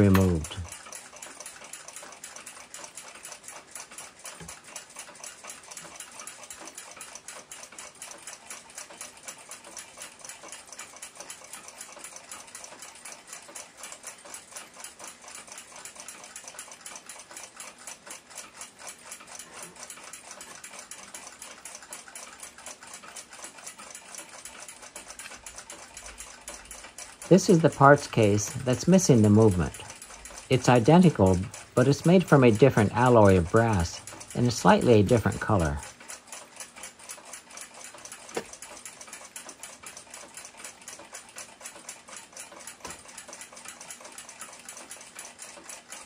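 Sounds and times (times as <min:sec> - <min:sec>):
clock ticking rapidly: 0:00.0 - 0:46.0.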